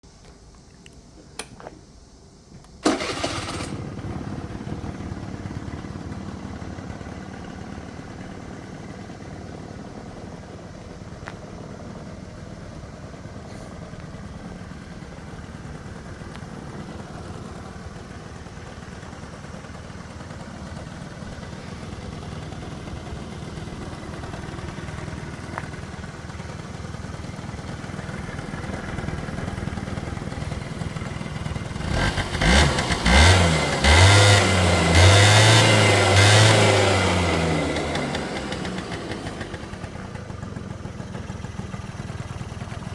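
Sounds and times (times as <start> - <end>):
scooter engine idling: 2.8 - 42.9.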